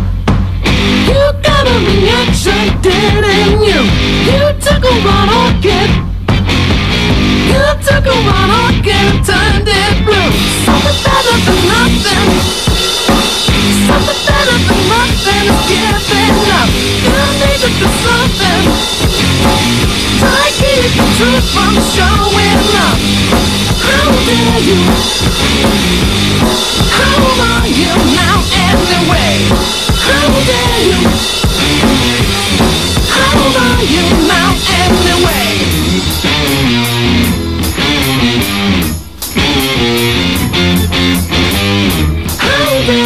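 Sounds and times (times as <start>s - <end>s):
music with drum kit beat: 0.0s - 43.0s.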